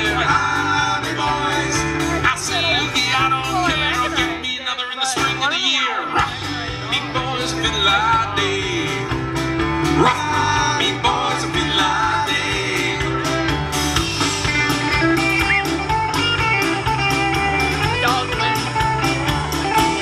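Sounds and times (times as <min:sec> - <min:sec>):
guitars playing: 0:00.0 - 0:20.0
live folk-rock band: 0:00.0 - 0:20.0.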